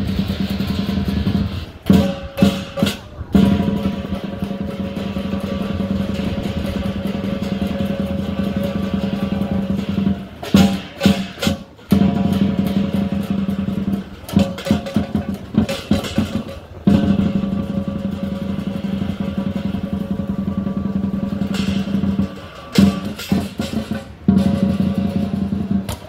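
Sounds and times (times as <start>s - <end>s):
cymbal crashes: 0.0s - 25.8s
drum roll: 0.0s - 26.0s.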